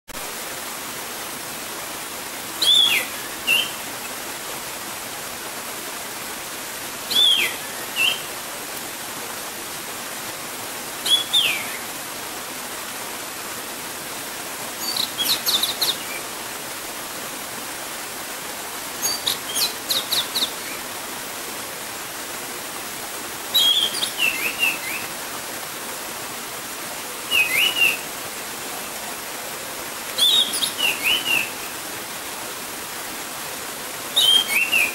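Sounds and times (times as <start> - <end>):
gurgling stream: 0.1 - 34.9.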